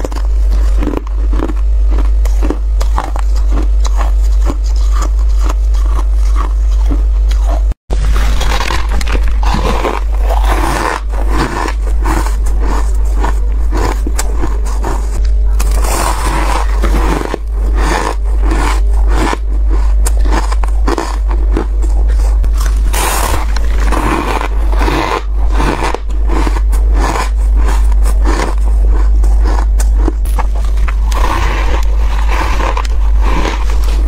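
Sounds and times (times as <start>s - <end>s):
chewing crunchy frost: 0.0s - 34.0s
steady low hum: 0.0s - 34.0s.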